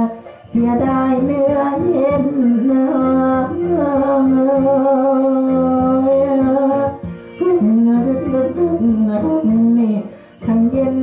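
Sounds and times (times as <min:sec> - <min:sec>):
hoarse voice singing: 0:00.0 - 0:11.0
musical backing: 0:00.0 - 0:11.0.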